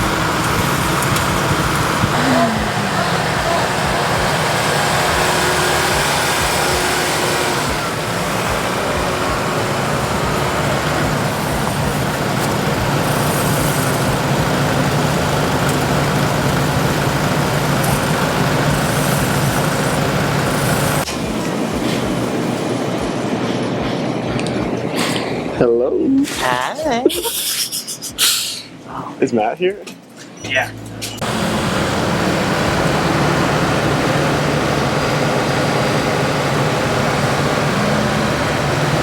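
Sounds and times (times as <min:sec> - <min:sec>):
snowblower rushing noise: 0:00.0 - 0:25.6, 0:31.2 - 0:39.0
tractor diesel engine running: 0:00.0 - 0:25.8, 0:30.7 - 0:39.0.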